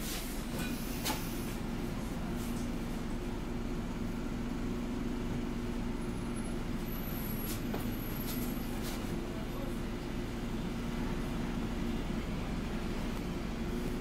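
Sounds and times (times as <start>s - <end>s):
bus diesel engine drone: 0.0s - 14.0s
road noise: 0.0s - 14.0s.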